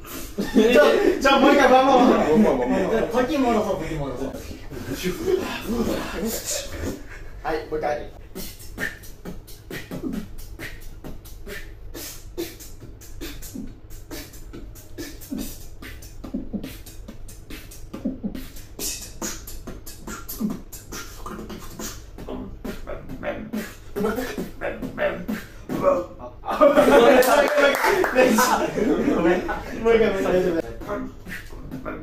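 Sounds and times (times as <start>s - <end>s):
beatboxing: 0.0s - 7.4s, 8.2s - 32.0s.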